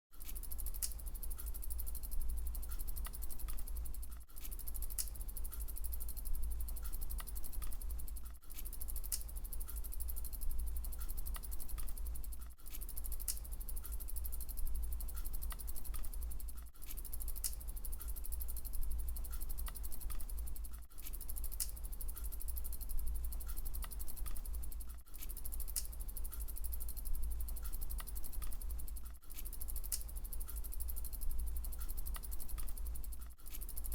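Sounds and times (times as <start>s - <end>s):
bicycle freewheel hub ticking: 0.2s - 33.9s.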